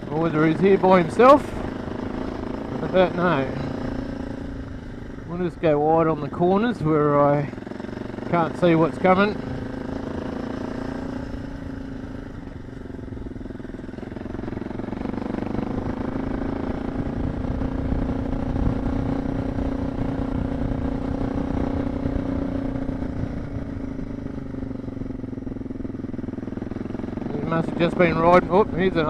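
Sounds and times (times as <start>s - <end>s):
motorcycle engine pulling uphill: 0.0s - 29.0s.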